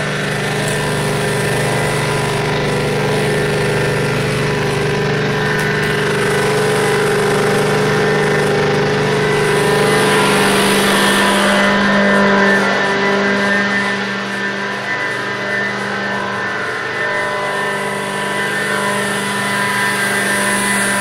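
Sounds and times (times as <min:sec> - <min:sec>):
engine running steadily: 0:00.0 - 0:21.0
high-pressure pump: 0:00.0 - 0:21.0.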